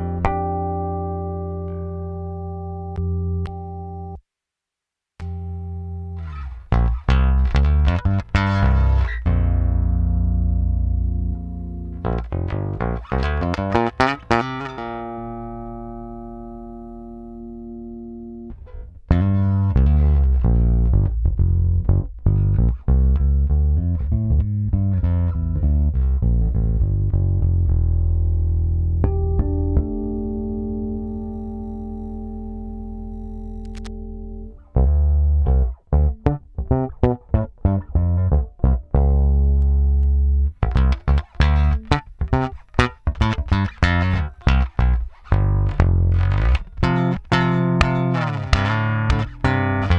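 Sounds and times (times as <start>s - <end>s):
bass guitar plucked notes: 0.0s - 4.2s, 5.2s - 49.9s.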